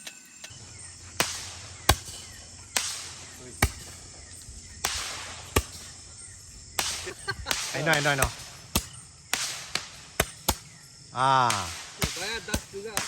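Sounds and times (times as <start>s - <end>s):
sharp knocks with hiss: 0.0s - 13.0s.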